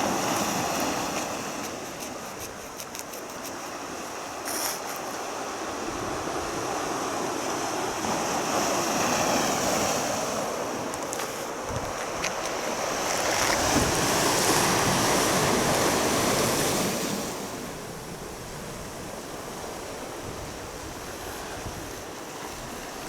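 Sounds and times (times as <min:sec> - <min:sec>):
sea waves on shore: 0:00.0 - 0:23.0.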